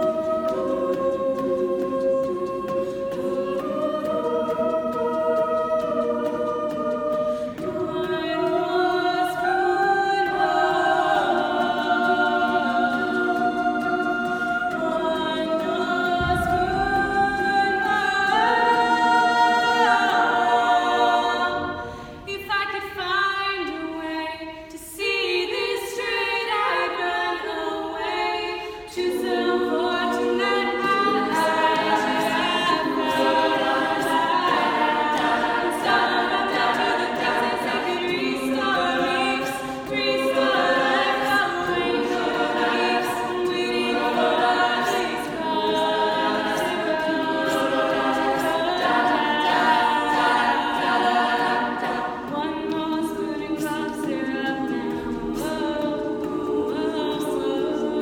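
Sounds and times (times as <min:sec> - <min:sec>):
a cappella group singing harmony: 0:00.0 - 0:58.0.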